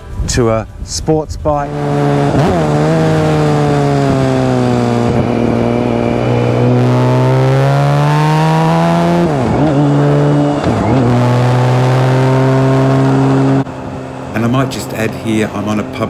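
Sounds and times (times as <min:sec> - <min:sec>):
motorcycle engine revving: 0:01.4 - 0:16.0.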